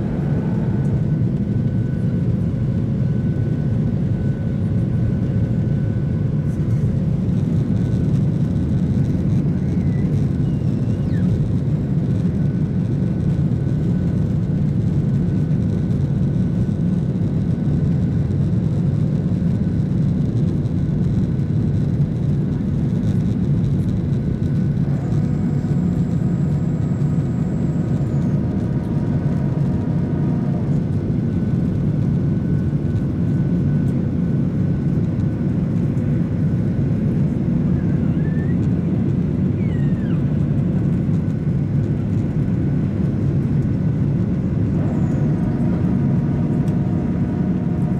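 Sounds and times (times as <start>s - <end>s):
faint steady whine: 0.0s - 47.9s
jet engine roar in cabin: 0.0s - 47.9s.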